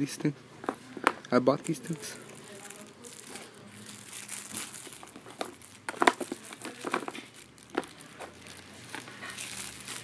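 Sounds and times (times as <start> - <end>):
packaging crinkling: 1.5 - 10.0.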